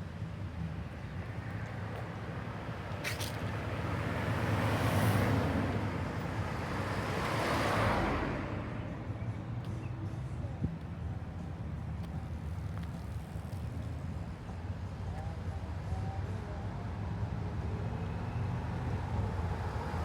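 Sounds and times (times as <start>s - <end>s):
road traffic rumble: 0.0s - 20.0s
vehicles passing: 0.0s - 20.0s.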